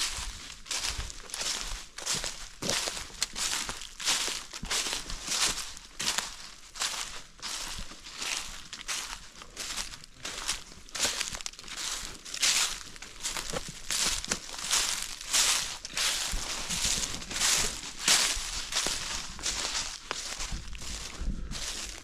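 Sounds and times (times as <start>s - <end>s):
footsteps crunching dry leaves: 0.0s - 22.0s
undergrowth rustling: 0.0s - 22.0s.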